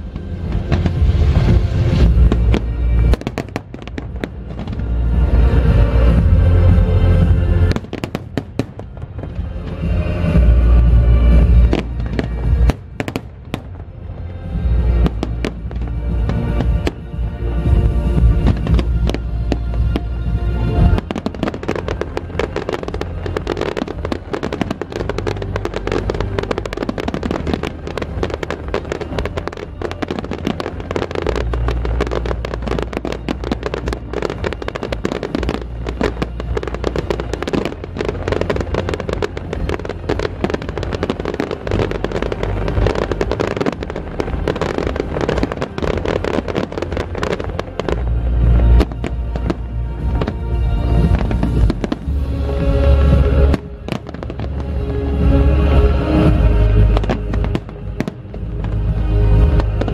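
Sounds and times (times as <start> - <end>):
fireworks bursting and crackling: 0.0 - 59.9
music: 0.0 - 59.9.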